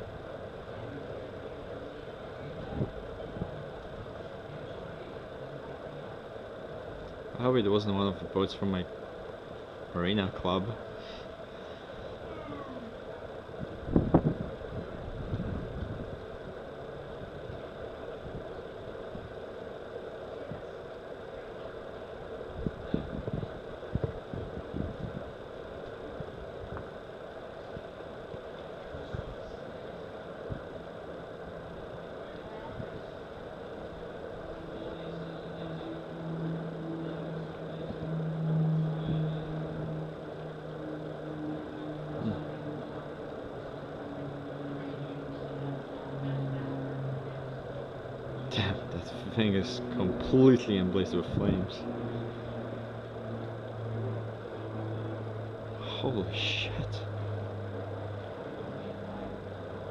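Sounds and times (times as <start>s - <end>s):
background hiss: 0.0s - 59.9s
motor humming: 0.0s - 59.9s.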